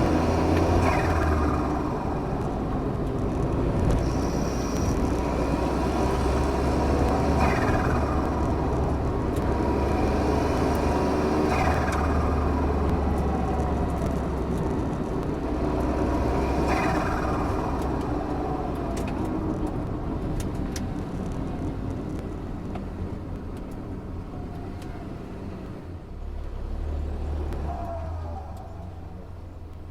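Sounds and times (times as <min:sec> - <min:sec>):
turbocharged engine running: 0:00.0 - 0:29.9.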